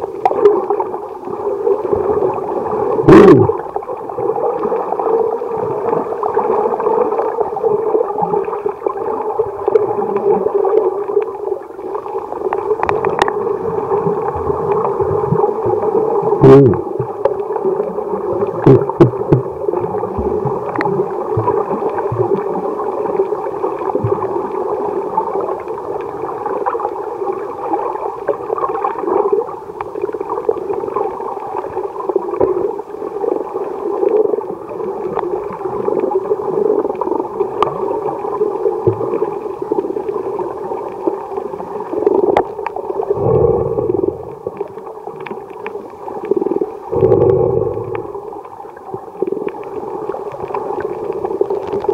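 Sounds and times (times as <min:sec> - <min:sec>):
muffled underwater rushing: 0:00.0 - 0:51.9.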